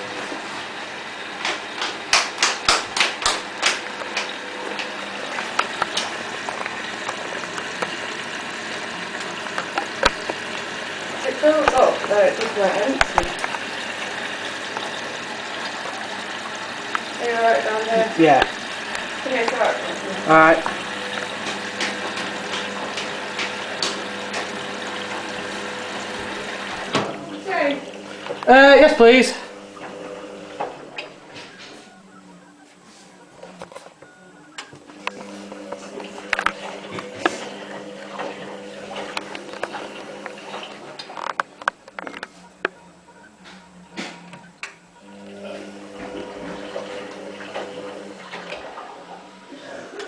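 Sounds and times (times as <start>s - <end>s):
washing machine running: 0.0s - 50.0s.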